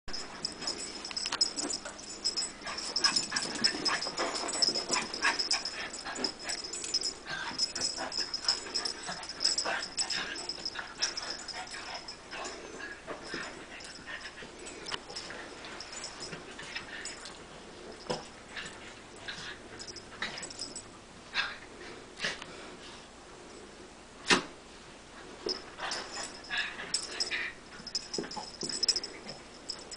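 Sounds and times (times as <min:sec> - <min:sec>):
small dogs play-fighting: 0:00.2 - 0:20.8, 0:25.4 - 0:29.9.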